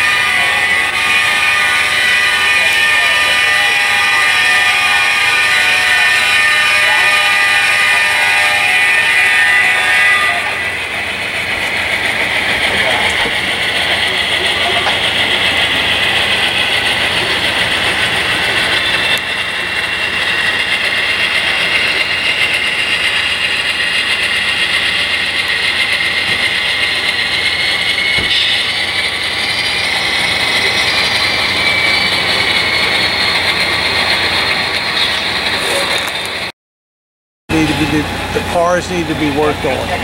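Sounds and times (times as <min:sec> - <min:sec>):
model trains whirring and rattling: 0:00.0 - 0:36.5, 0:37.5 - 0:40.0.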